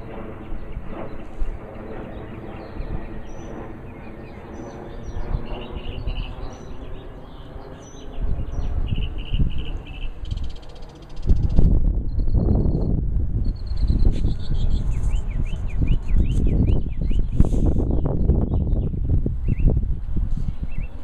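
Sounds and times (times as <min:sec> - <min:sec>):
low rumbling noise: 0:00.0 - 0:21.0
small birds chirping: 0:00.3 - 0:19.8.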